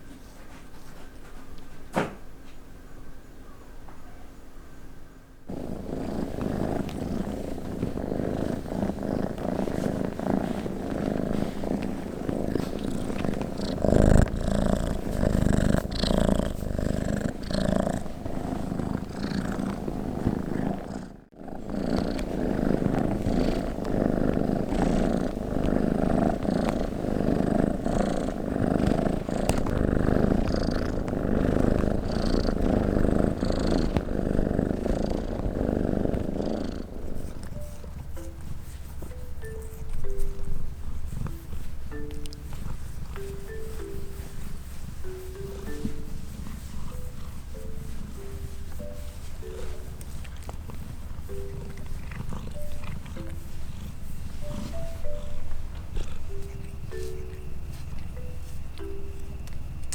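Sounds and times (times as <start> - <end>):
cat purring: 5.4 - 59.9.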